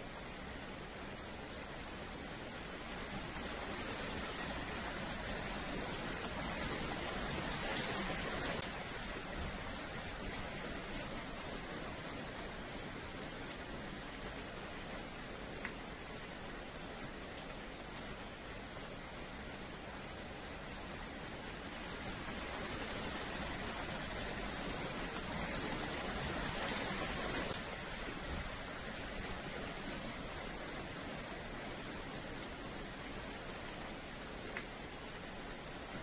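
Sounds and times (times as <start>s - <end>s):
rain on paving and metal fence: 0.0s - 36.0s.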